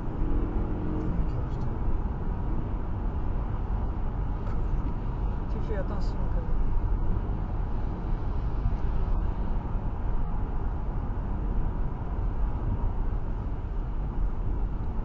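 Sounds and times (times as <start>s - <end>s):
car road and tyre noise: 0.0s - 15.0s.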